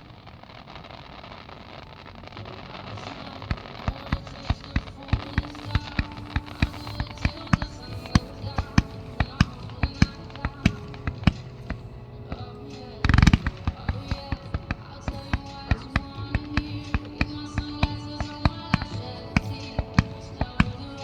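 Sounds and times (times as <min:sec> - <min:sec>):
fireworks banging: 0:00.0 - 0:21.0
music: 0:00.3 - 0:21.0.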